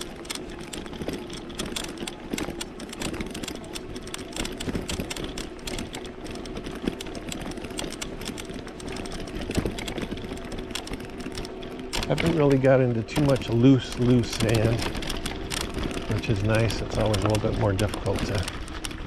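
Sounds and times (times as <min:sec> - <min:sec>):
bike rattling on rough ground: 0:00.0 - 0:19.0
electric bike motor whine: 0:00.0 - 0:19.0.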